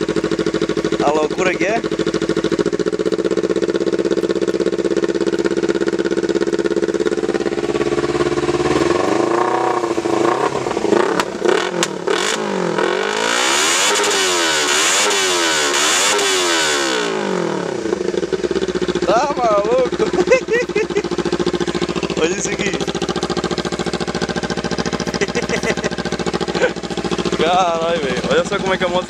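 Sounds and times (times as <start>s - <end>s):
exhaust cracks: 0.0s - 29.0s
motorcycle engine idling and revving: 0.0s - 29.0s.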